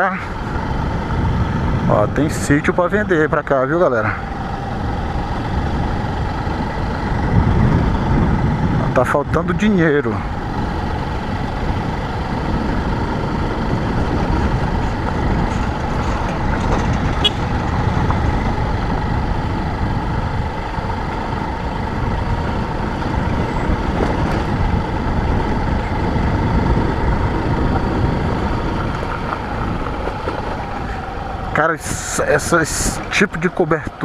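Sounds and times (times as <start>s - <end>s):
motorcycle engine riding: 0.0s - 34.0s.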